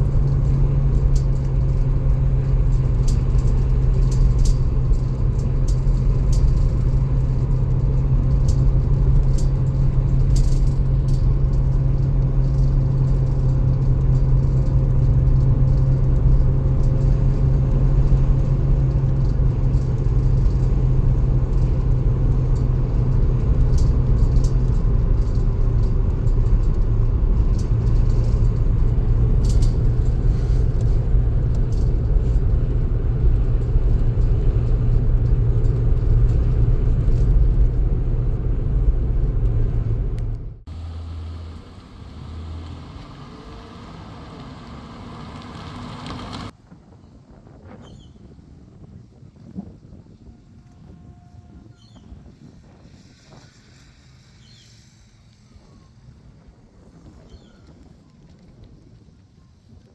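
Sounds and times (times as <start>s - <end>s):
road noise: 0.0s - 46.7s, 49.9s - 59.9s
car engine rumble: 0.0s - 48.0s.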